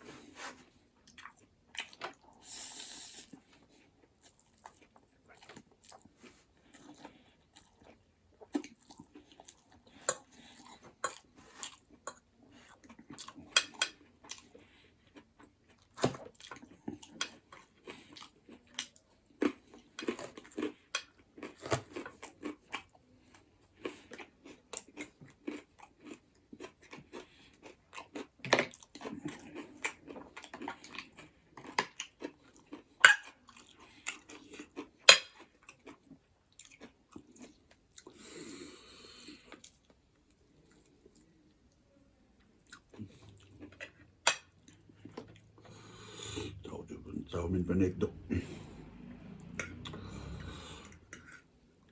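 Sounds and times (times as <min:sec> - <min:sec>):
chewing and biting food: 0:03.2 - 0:41.5, 0:42.5 - 0:46.6, 0:48.1 - 0:51.9.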